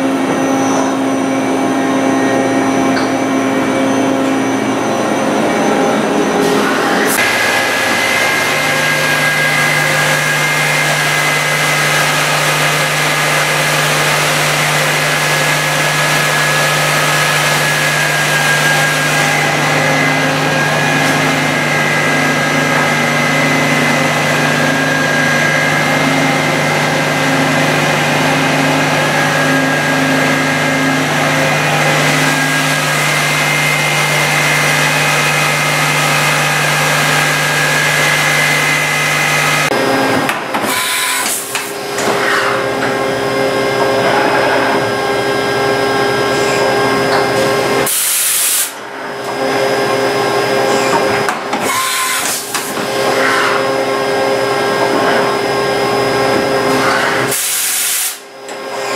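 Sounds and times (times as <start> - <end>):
lathe low hum: 0.0 - 57.6
high machine whine: 0.0 - 58.9.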